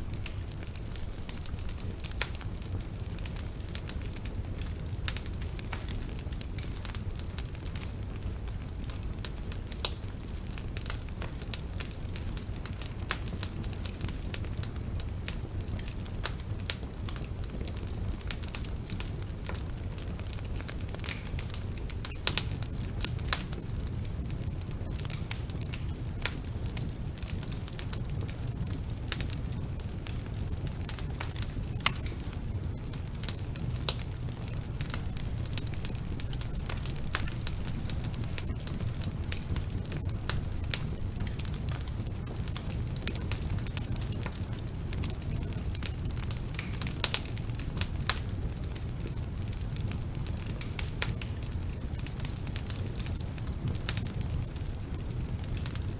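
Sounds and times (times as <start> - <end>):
fire crackling and popping: 0.0 - 55.9
fire flames rumbling: 0.0 - 55.9.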